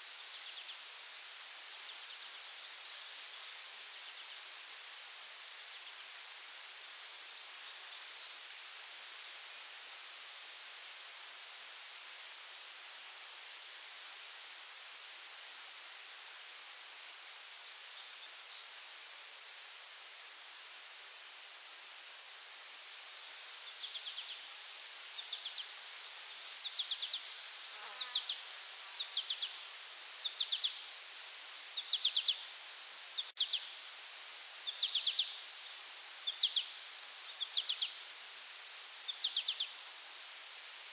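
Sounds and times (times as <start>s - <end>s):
crickets chirping: 0.0s - 40.9s
insect drone: 0.0s - 40.9s
soft hiss: 0.0s - 40.9s.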